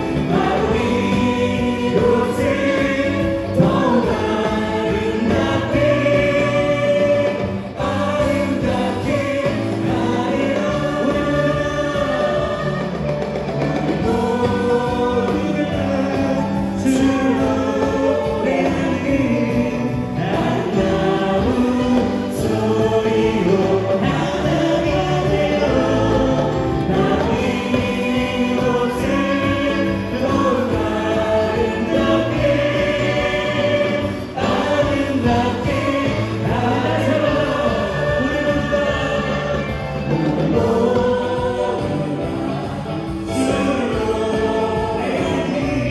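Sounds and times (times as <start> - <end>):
live band accompaniment: 0.0 - 45.9
men and women singing: 0.0 - 45.9.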